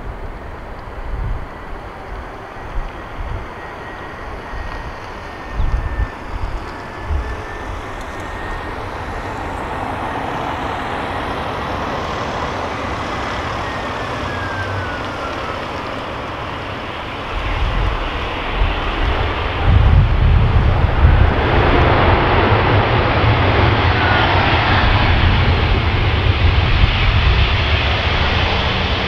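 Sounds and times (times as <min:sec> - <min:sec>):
jet engines whining: 0:00.0 - 0:29.0
wind buffeting microphone: 0:00.0 - 0:29.0.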